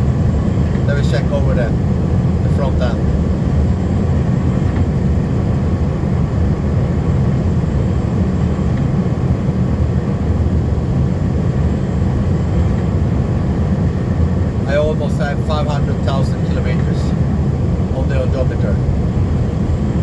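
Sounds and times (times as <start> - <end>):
truck engine and road drone: 0.0 - 20.0.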